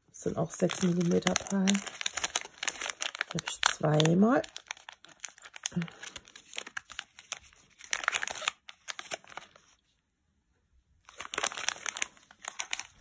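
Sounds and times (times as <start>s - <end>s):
plastic bags crinkling: 0.2s - 9.8s, 11.0s - 13.0s.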